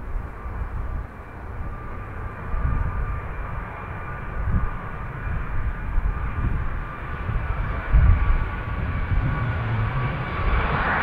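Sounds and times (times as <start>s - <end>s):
jet engine whine: 0.0s - 11.0s
low uneven rumble: 0.0s - 11.0s.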